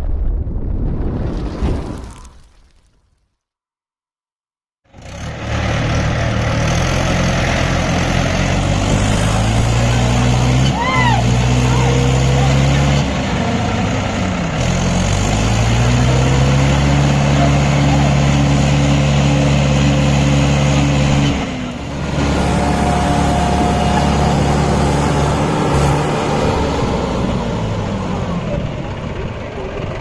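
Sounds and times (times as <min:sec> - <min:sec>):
tractor diesel engine running hard: 0:04.9 - 0:30.0.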